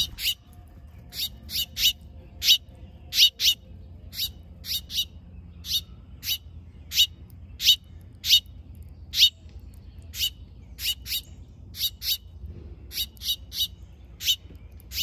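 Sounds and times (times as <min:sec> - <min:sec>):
songbird chip calls: 0:00.0 - 0:00.5, 0:01.1 - 0:15.0.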